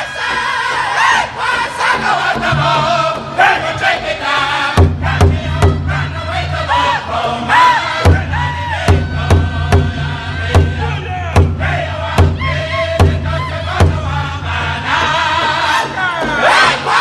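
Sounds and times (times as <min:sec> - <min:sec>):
group singing high sliding vocals: 0:00.0 - 0:17.0
large bass drum beating: 0:02.1 - 0:16.4.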